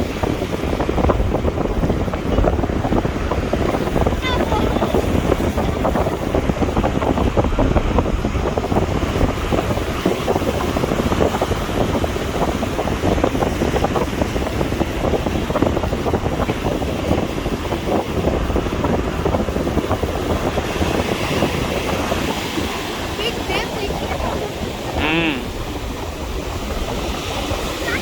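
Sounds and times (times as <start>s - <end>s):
sea waves washing on beach: 0.0s - 28.0s
wind rumble on microphone: 0.0s - 28.0s.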